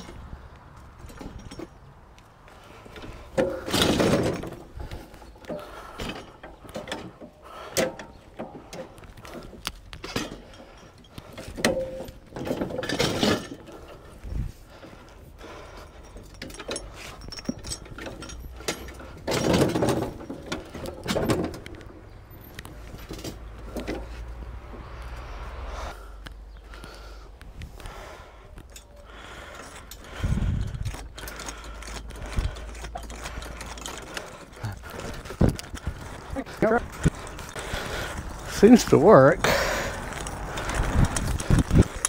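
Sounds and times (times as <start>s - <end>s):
metallic clanks and rattles: 0.0s - 2.0s, 2.6s - 24.2s, 28.6s - 42.0s.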